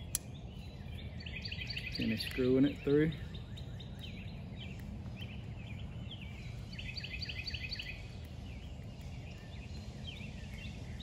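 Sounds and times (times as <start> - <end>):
low background rumble: 0.0 - 11.0
songbird chirping: 0.0 - 11.0.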